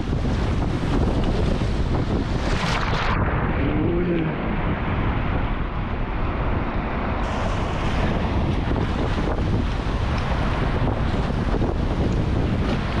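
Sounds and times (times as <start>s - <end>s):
whitewater rushing and splashing: 0.0s - 5.4s, 6.4s - 13.0s
wind buffeting microphone: 0.0s - 13.0s.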